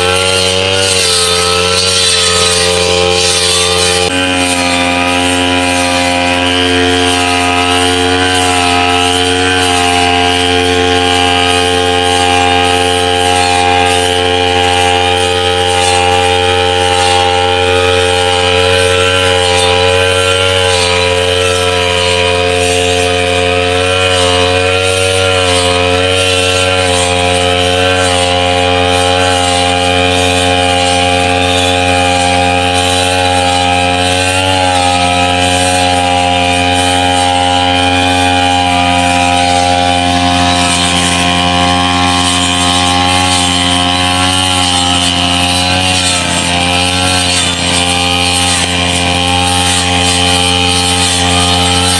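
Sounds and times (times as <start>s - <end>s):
brush cutter engine running: 0.0s - 51.9s.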